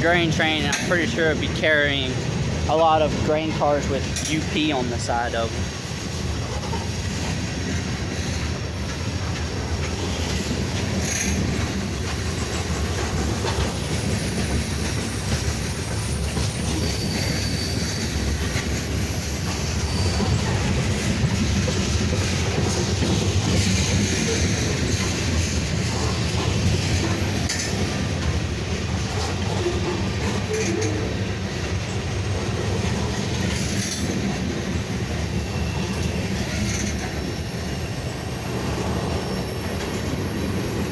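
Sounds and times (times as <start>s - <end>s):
freight train rumbling past: 0.0s - 40.9s
train wheel clatter: 0.0s - 40.9s
train wheel squeal: 3.3s - 40.9s.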